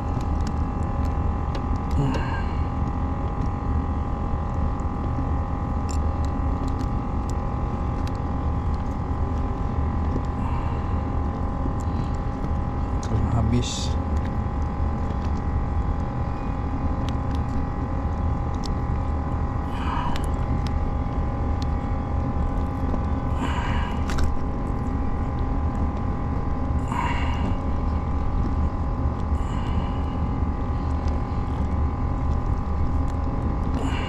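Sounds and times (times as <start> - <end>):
constant hum: 0.0 - 34.0
low rumble: 0.0 - 34.0.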